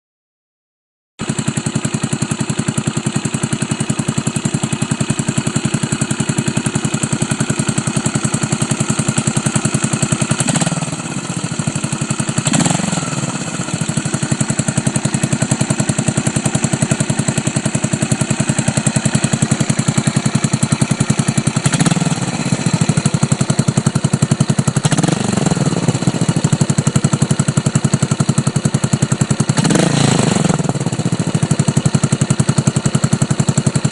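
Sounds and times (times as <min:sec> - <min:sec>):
motorcycle engine idling: 0:01.2 - 0:33.9.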